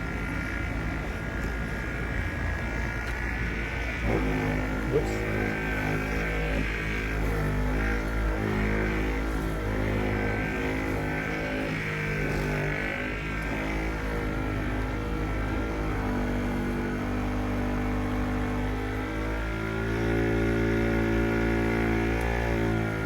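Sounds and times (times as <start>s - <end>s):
electric polisher motor whine: 0.0s - 23.0s.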